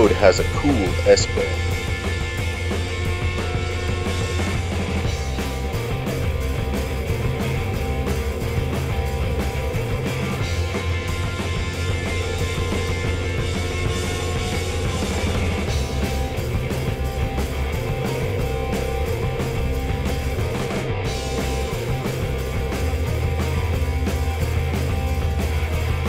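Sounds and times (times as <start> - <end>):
rock music with guitar and drums: 0.0 - 26.0.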